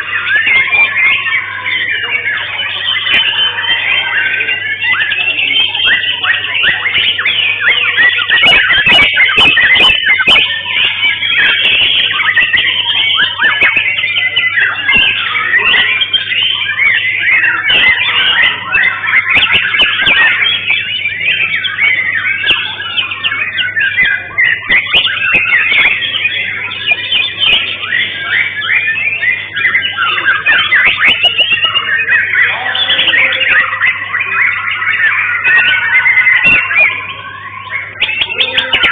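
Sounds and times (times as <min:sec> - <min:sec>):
birds singing whistled phrases: 0:00.0 - 0:38.9.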